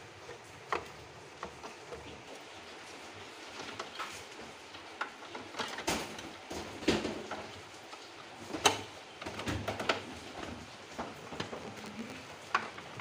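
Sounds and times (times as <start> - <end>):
knocks taps and clatter: 0.0 - 13.0.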